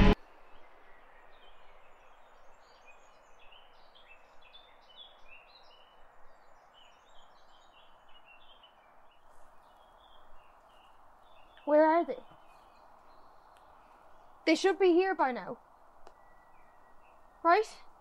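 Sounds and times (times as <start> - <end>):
soft steady hiss: 0.0 - 18.0
small birds chirping: 0.1 - 18.0.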